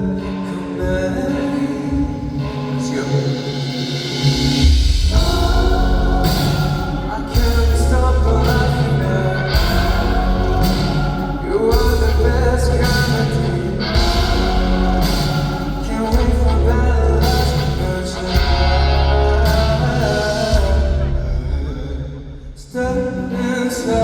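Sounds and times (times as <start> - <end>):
man singing live with band: 0.0 - 24.0.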